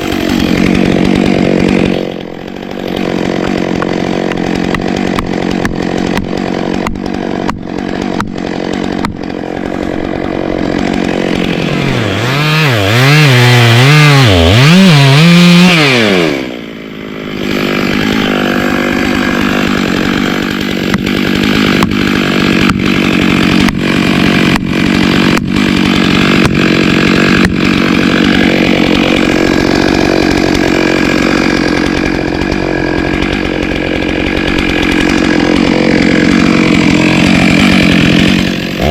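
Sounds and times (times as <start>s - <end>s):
chainsaw cutting into tree: 0.0s - 38.9s.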